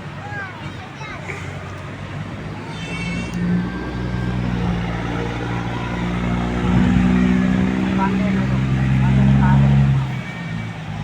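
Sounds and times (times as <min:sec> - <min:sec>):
motor engine running: 0:01.4 - 0:11.0.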